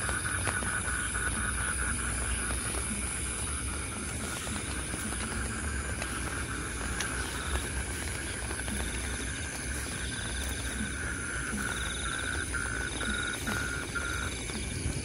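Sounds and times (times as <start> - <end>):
faint ticks of raindrops: 0.0 - 15.0
steady high-pitched hum: 0.0 - 15.0
steady rain hiss: 0.0 - 15.0.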